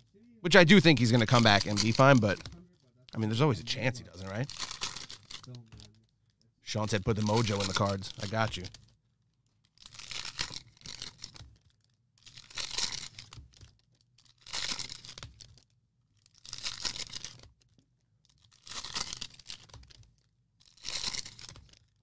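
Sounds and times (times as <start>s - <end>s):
cellophane wrappers tearing: 0.1s - 8.8s, 9.6s - 17.6s, 18.2s - 22.0s.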